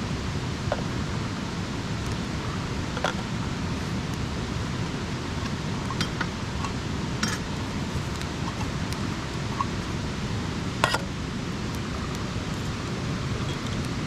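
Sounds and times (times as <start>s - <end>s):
campfire hissing: 0.0s - 14.0s
fire crackles and pops: 0.2s - 14.0s.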